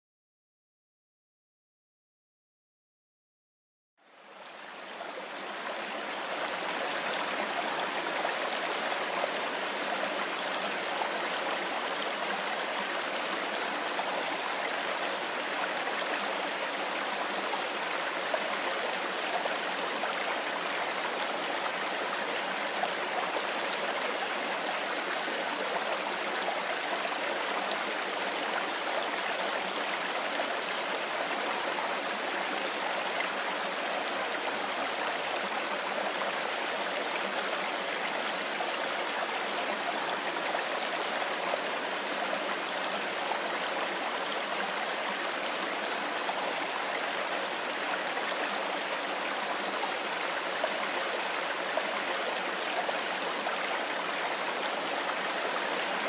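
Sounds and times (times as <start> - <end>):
river water flowing: 4.0 - 56.0.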